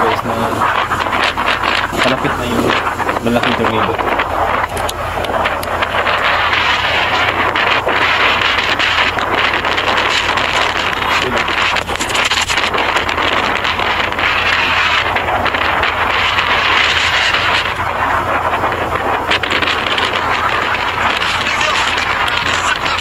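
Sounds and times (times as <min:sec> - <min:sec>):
low rumble: 0:00.0 - 0:23.0
strong gusty wind on microphone: 0:00.0 - 0:23.0.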